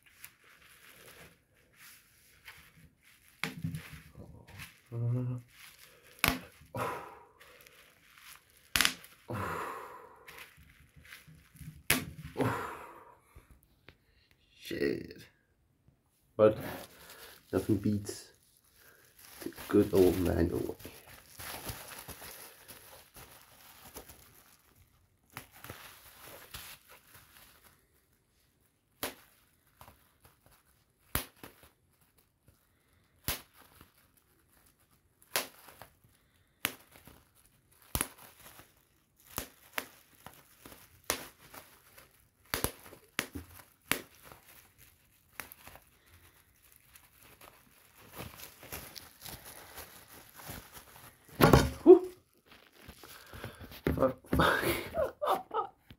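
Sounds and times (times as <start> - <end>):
bubble wrap pops: 0.0 - 12.6, 16.6 - 55.9
plastic crinkling: 0.0 - 14.4, 16.5 - 55.9.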